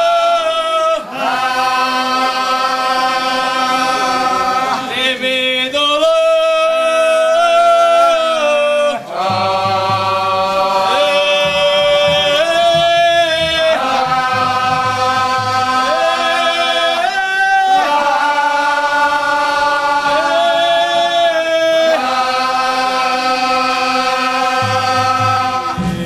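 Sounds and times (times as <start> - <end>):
men singing unaccompanied chant: 0.0 - 26.0.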